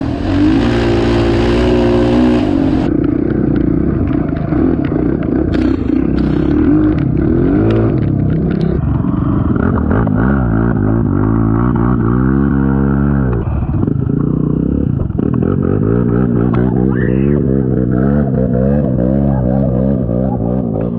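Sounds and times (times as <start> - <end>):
atv engine revving: 0.0 - 20.9.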